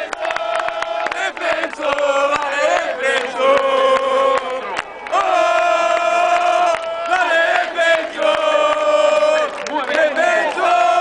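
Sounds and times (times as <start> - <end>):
football crowd chanting and singing: 0.0 - 11.0.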